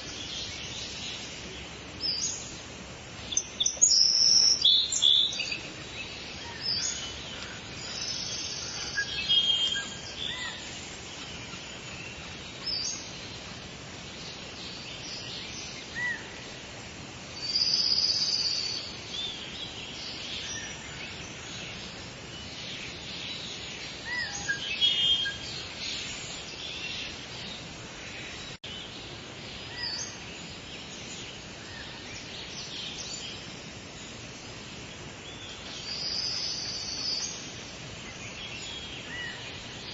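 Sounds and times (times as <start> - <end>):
outdoor background hiss: 0.0 - 39.9
songbirds chirping and singing: 0.0 - 39.9.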